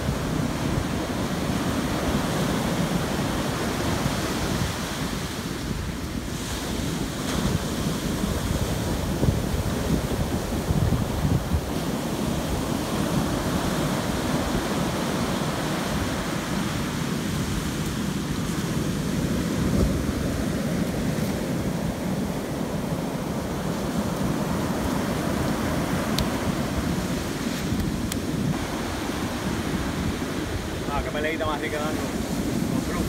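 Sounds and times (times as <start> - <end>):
surf breaking on beach: 0.0 - 33.0
wind buffeting microphone: 0.0 - 33.0.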